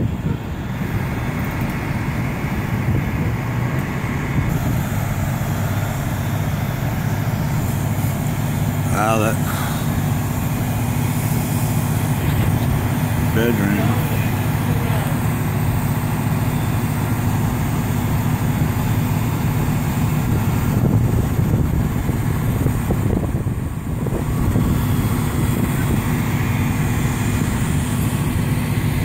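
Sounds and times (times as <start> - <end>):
diesel engines running: 0.0 - 29.0.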